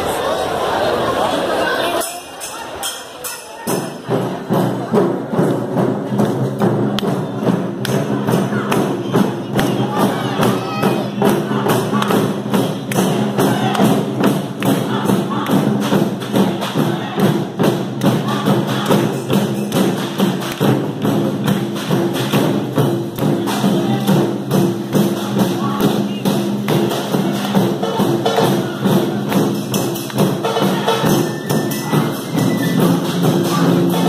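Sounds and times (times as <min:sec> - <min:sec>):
taiko drums playing fast rhythm: 0:03.7 - 0:34.0.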